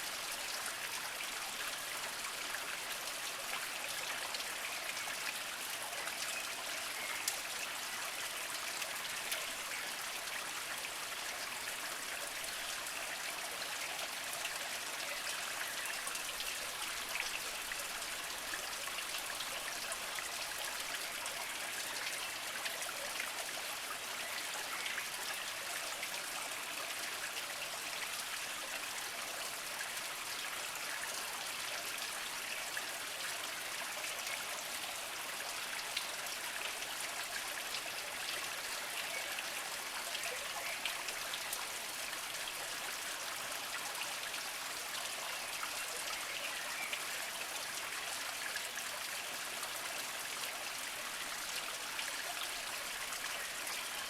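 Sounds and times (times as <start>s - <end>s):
spring water trickling over rocks: 0.0s - 54.0s.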